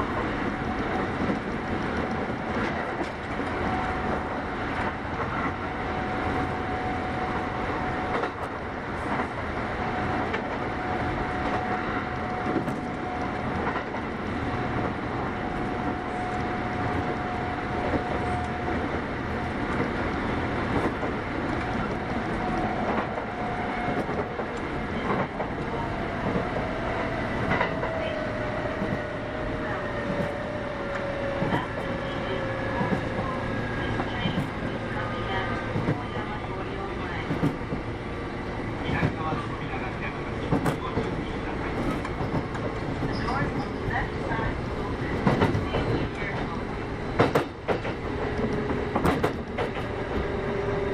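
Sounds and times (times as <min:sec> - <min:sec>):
rail joint clicks: 0:00.0 - 0:50.9
train wheels rumbling on rail: 0:00.0 - 0:50.9.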